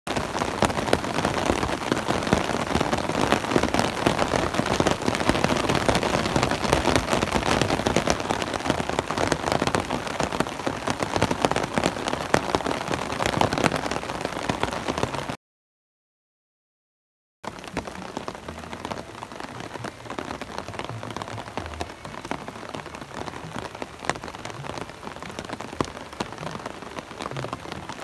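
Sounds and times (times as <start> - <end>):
heavy rain on an umbrella: 0.1 - 15.4, 17.4 - 28.0.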